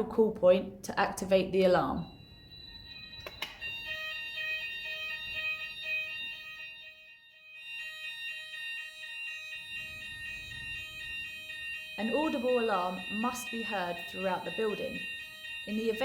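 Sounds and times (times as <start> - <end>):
fire alarm pulsing tone: 1.1 - 16.0.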